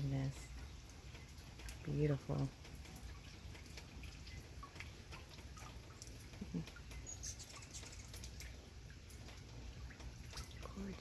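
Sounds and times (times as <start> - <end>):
drips and taps: 0.0 - 11.0
hummingbirds chirping: 0.0 - 11.0
rain falling: 0.0 - 11.0.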